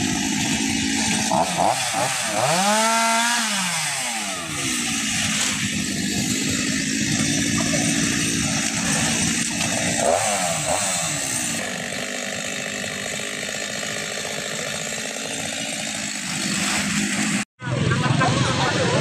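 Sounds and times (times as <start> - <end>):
chainsaw running: 0.0 - 17.5.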